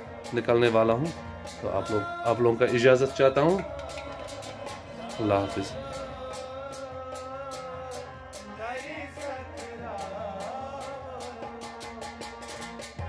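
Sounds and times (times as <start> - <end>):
background music with steady beat: 0.0 - 13.0.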